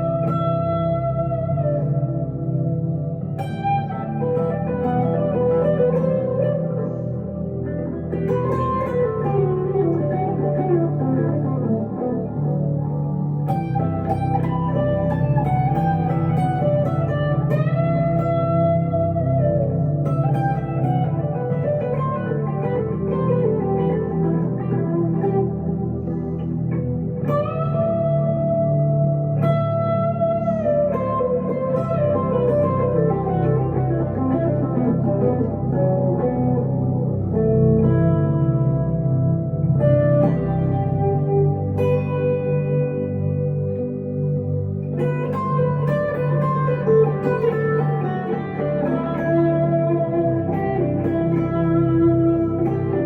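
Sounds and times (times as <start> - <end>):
electric guitar lead melody: 0.0 - 53.0
steady low accompaniment: 0.0 - 53.0.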